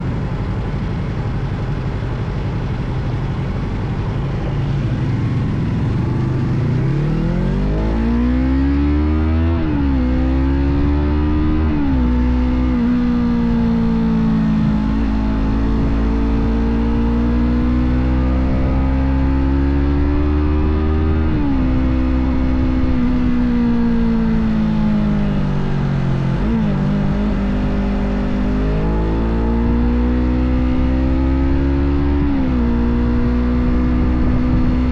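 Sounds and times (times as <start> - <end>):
motorcycle engine revving: 1.5 - 34.9.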